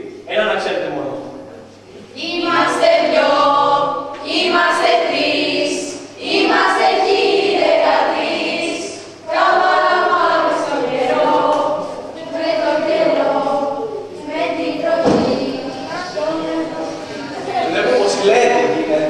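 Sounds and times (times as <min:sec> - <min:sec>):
children singing together: 0:02.2 - 0:19.0.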